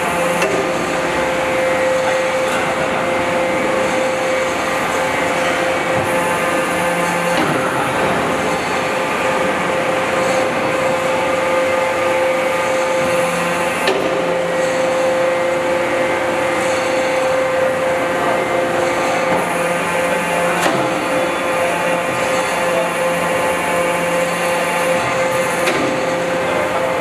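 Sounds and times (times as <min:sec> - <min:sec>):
dense machine noise: 0:00.0 - 0:27.0
hydraulic whine: 0:00.0 - 0:27.0.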